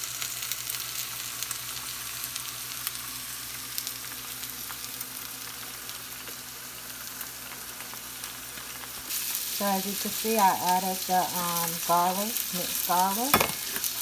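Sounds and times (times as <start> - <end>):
onions sizzling in a pan: 0.0 - 14.0.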